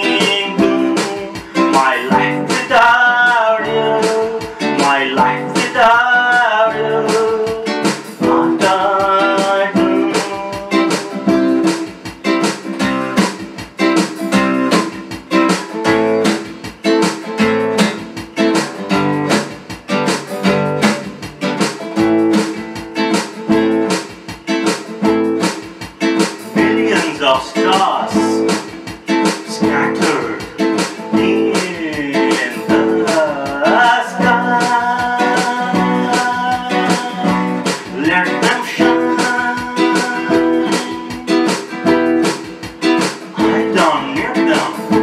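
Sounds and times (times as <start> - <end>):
strummed acoustic guitar song: 0.0 - 45.0.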